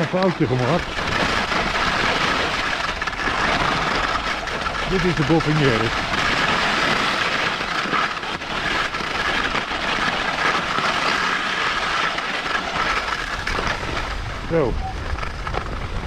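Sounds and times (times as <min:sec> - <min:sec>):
skis scraping over snow: 0:00.0 - 0:16.0.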